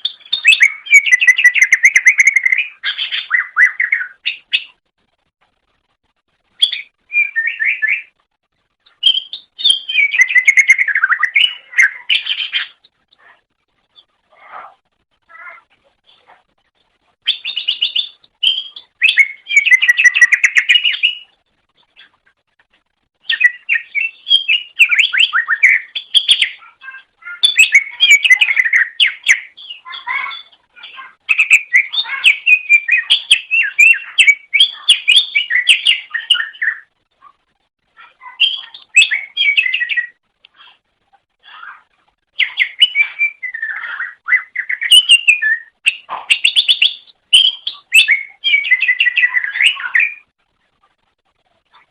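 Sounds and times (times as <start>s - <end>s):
bird singing chirps and trills: 0.0s - 4.8s, 6.5s - 8.2s, 8.8s - 14.1s, 17.2s - 22.3s, 23.2s - 37.0s, 38.0s - 40.7s, 41.5s - 50.3s.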